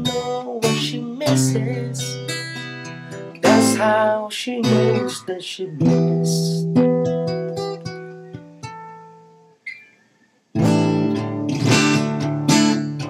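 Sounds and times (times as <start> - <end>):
acoustic guitar picked notes: 0.0 - 13.0
acoustic guitar strummed chords: 0.0 - 13.0.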